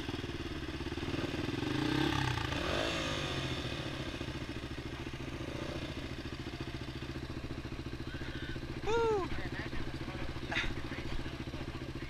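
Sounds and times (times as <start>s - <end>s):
dirt bike engine revving: 0.0s - 12.0s
dirt bike engines idling: 0.0s - 12.0s.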